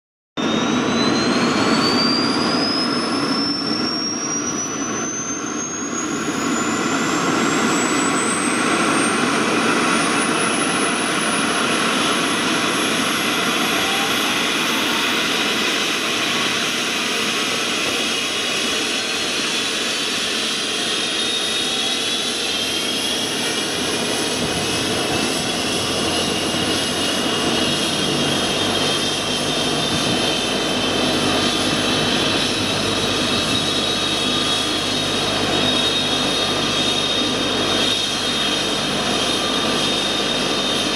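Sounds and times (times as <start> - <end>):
helicopter engine running noise: 0.4 - 40.9
helicopter turbine whine: 0.4 - 40.9.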